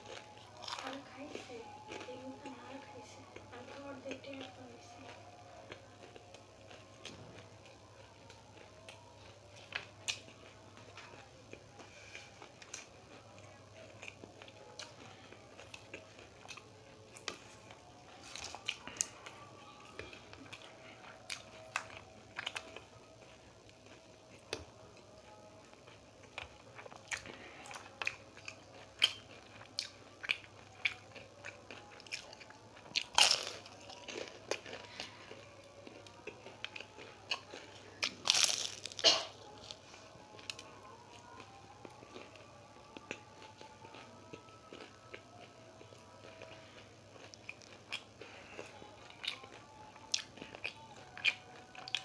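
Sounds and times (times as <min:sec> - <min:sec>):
biting and chewing crisp food: 0:00.0 - 0:52.0.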